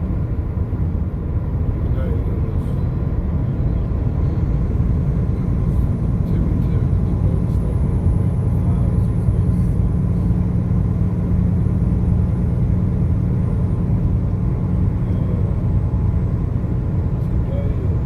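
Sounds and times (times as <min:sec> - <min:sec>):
car driving on highway: 0:00.0 - 0:18.0.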